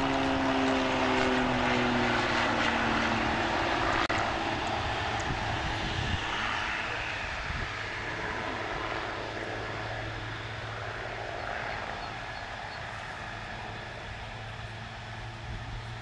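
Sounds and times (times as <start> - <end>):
propeller plane engine in flight: 0.0 - 16.0.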